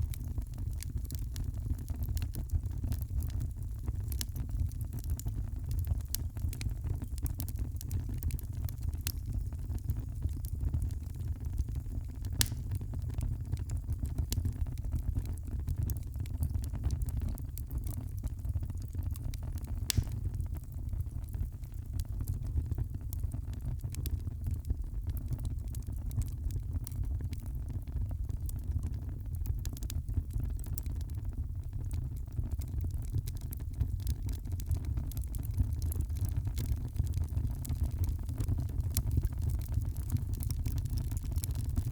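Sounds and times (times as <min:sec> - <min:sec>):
low rumble of flames: 0:00.0 - 0:41.9
wood fire crackling and popping: 0:00.0 - 0:41.9.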